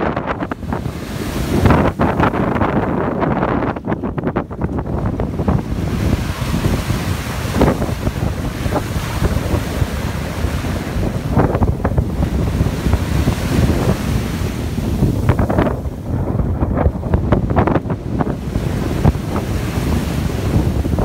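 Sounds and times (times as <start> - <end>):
small waves washing onto sand: 0.0 - 21.0
wind buffeting microphone: 0.0 - 21.0.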